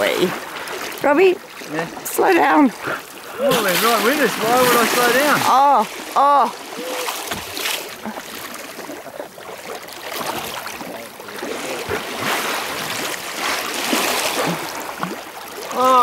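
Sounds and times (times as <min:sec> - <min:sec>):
water splashing against kayak hull: 0:00.0 - 0:16.0.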